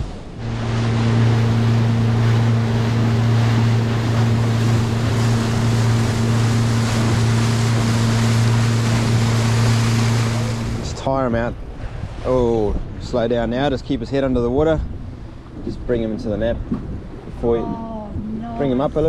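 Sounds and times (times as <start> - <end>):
boat engine humming: 0.0 - 19.0
rushing wind and water: 0.0 - 19.0.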